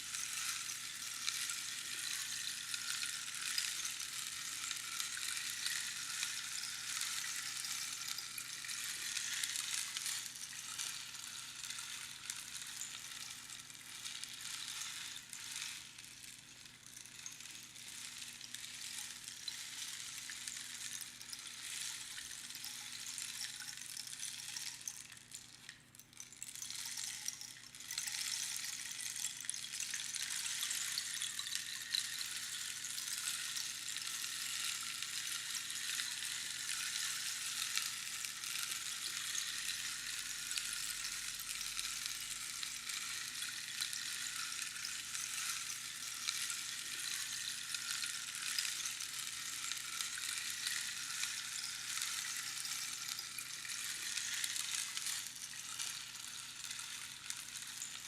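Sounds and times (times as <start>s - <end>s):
rainstick pebbles trickling: 0.0s - 58.0s.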